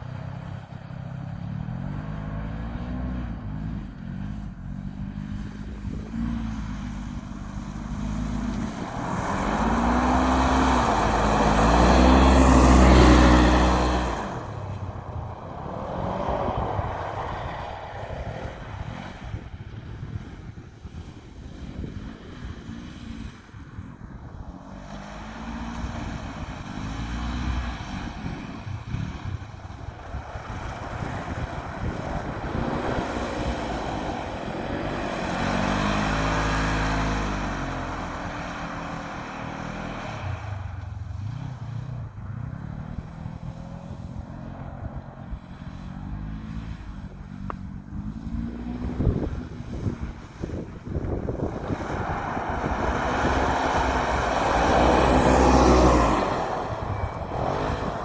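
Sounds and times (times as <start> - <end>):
engine revving: 1.5 - 19.5, 24.4 - 58.0.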